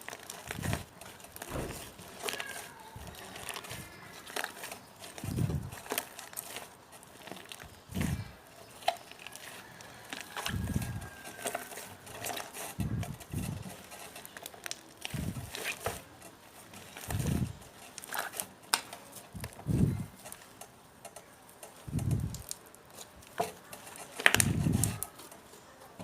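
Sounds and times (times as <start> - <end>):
slime squelching: 0.0 - 25.4
sticky clicks and crackles: 0.0 - 26.0.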